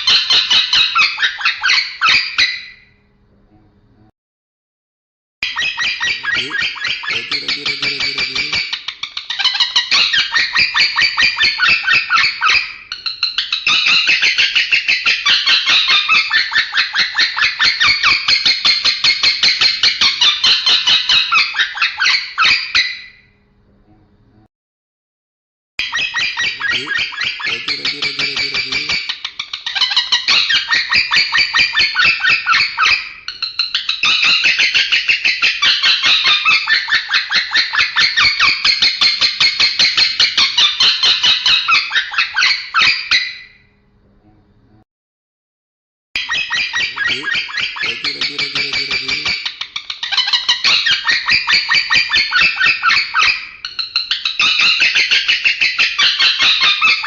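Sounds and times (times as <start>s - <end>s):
lovebird chattering trills: 5.4s - 22.9s, 25.8s - 43.2s, 46.2s - 57.0s.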